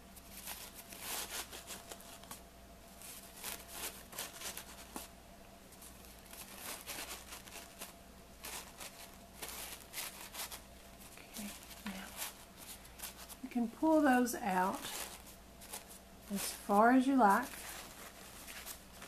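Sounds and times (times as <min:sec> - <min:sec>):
paper napkins rustling: 0:00.0 - 0:19.0.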